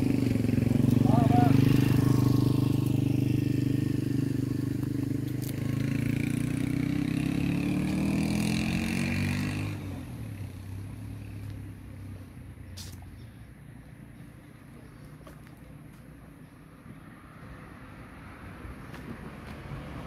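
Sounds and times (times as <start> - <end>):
passing engine humming: 0.0 - 20.0.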